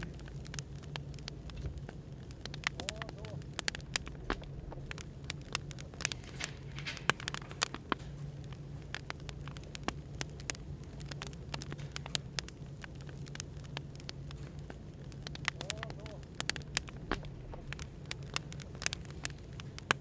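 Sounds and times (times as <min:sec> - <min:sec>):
cafe background hum: 0:00.0 - 0:20.0
wood fire crackling: 0:00.0 - 0:20.0.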